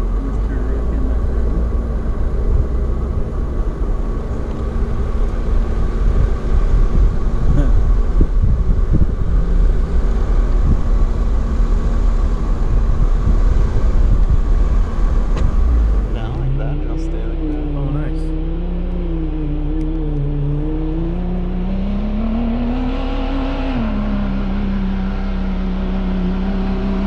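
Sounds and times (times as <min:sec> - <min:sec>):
car engine rumbling under load: 0:00.0 - 0:27.0.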